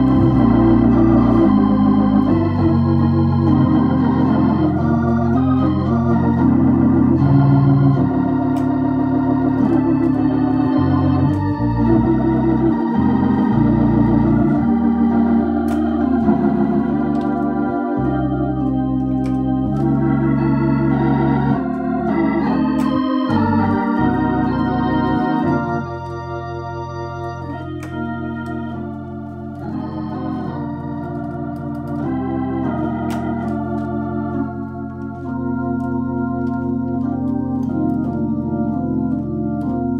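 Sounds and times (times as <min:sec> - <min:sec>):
organ chords over bass line: 0:00.0 - 0:39.9.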